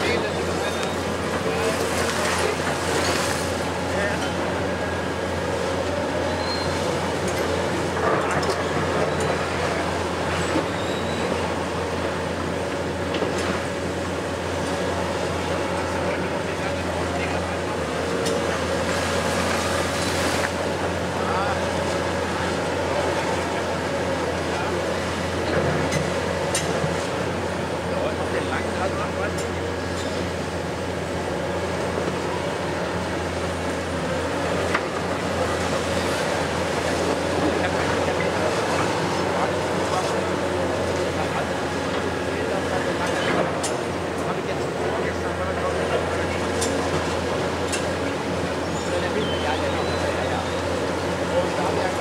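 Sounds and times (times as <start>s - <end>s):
excavator engine running: 0.0s - 52.0s.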